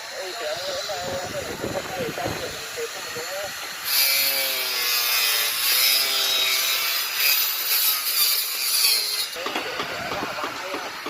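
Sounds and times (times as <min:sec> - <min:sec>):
saw rasping and scraping: 0:00.0 - 0:11.0.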